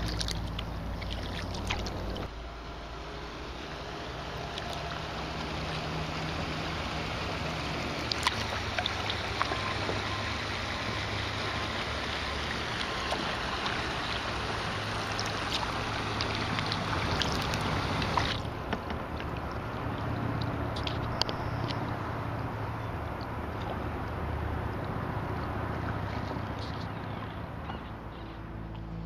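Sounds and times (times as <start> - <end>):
paddle splashes and drips: 0.0 - 2.4, 4.3 - 28.9
water rushing along kayak hull: 0.0 - 29.0.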